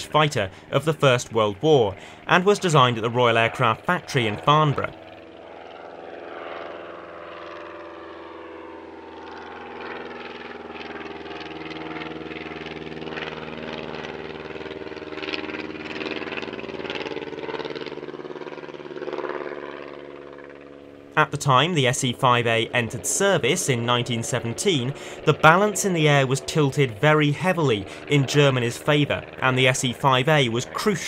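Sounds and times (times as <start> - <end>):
piston aero engine running: 0.0 - 31.0.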